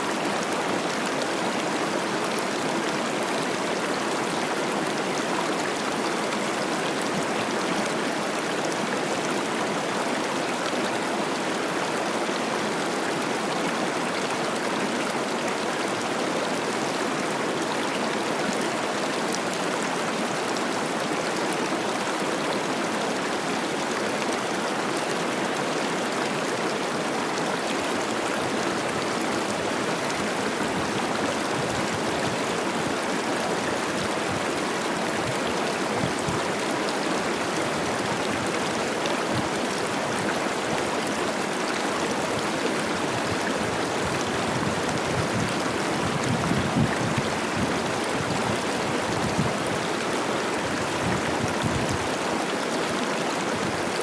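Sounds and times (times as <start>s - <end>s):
fast water rushing over rocks: 0.0s - 54.0s.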